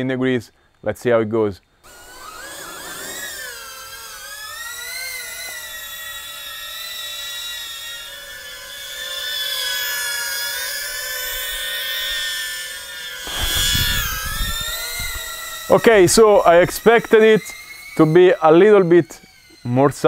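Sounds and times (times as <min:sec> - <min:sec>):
drone motors whining: 0:01.8 - 0:20.0.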